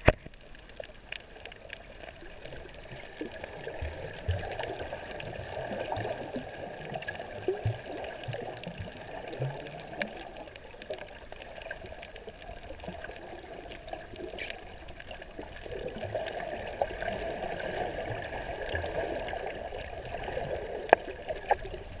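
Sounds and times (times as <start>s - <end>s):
muffled underwater rush: 0.0s - 22.0s.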